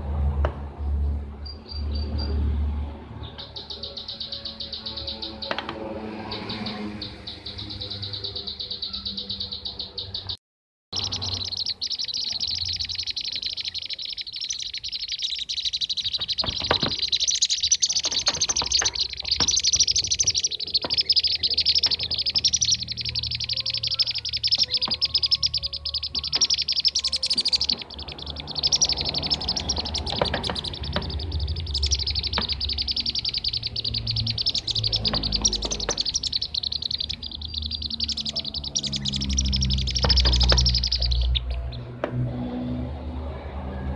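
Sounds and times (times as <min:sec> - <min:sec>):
bird chattering chirps: 0:03.2 - 0:10.4, 0:11.0 - 0:41.9.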